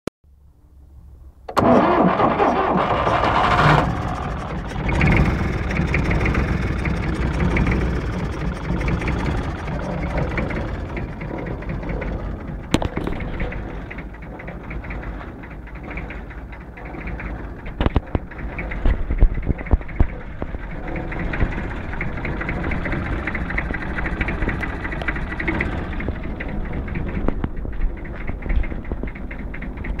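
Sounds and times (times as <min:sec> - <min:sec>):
diesel engine idling: 0:00.4 - 0:30.0.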